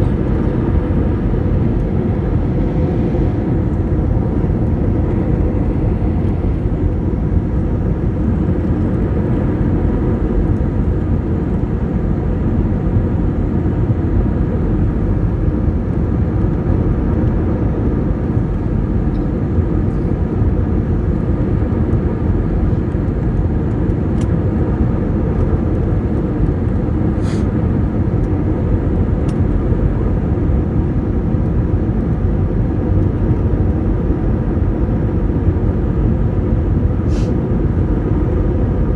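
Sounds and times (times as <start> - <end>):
jet engines and rushing air: 0.0 - 38.9.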